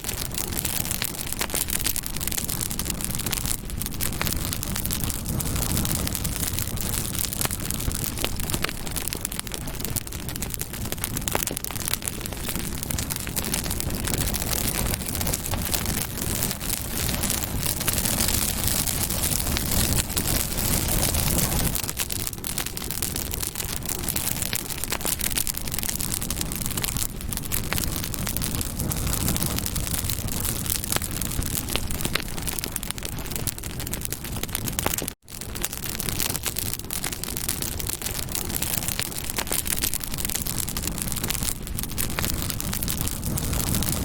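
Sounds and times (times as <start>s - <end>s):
campfire crackling and popping: 0.0s - 44.0s
hiss of flames: 0.0s - 44.0s.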